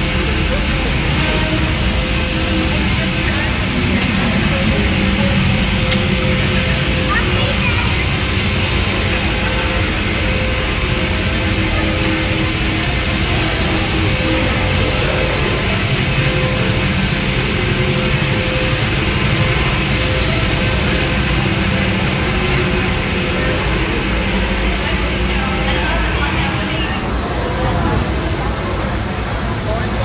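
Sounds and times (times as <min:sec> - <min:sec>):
humming tones: 0:00.0 - 0:30.0
mechanical rumble and hum: 0:00.0 - 0:30.0.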